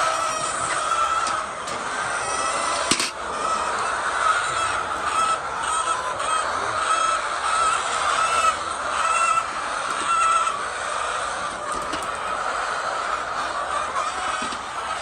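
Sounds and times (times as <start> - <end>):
chickens calling: 0.0 - 15.0
din of many birds: 0.0 - 15.0.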